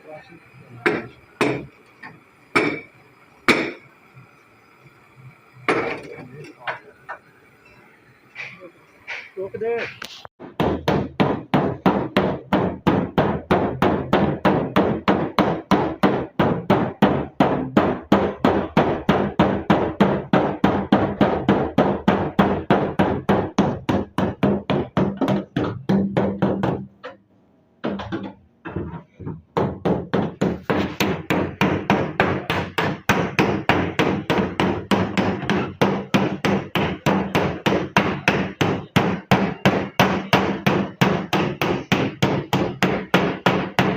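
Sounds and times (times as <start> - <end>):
hammer beating steel panel: 0.8 - 2.9, 3.5 - 3.8, 9.1 - 27.2, 27.8 - 43.9.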